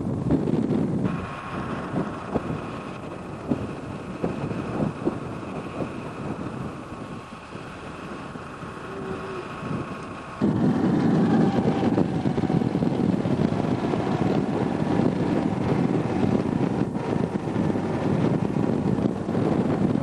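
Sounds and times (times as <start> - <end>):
harvester machinery rumbling: 0.0 - 20.0
wind buffeting microphone: 0.0 - 20.0.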